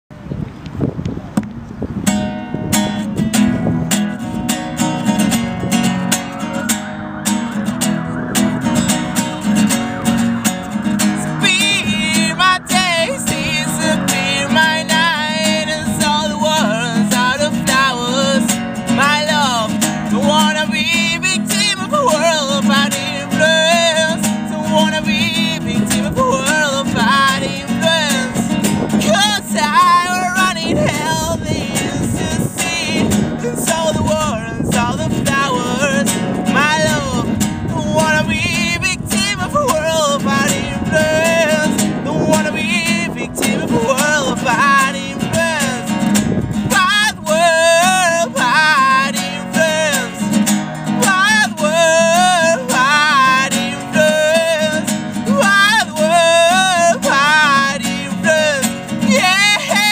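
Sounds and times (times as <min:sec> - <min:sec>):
acoustic guitar strumming: 0:01.4 - 0:59.9
man singing: 0:11.0 - 0:46.0, 0:46.6 - 0:59.9.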